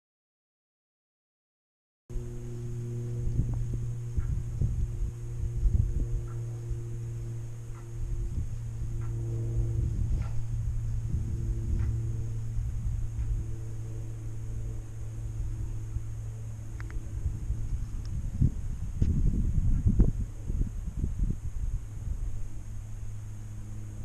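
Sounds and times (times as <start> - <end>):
steady low hum: 2.1 - 24.0
wind buffeting microphone: 2.2 - 24.0.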